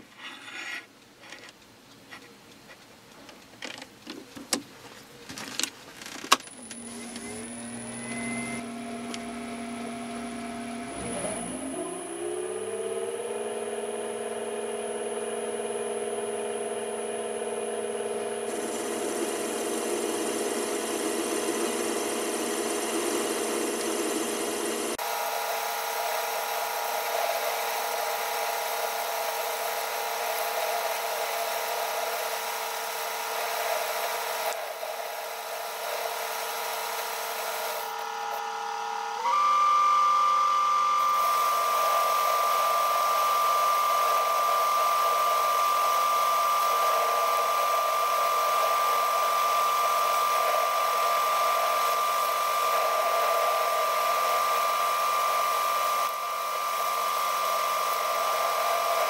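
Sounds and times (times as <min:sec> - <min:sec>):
lathe running with whine: 0:06.5 - 0:59.0.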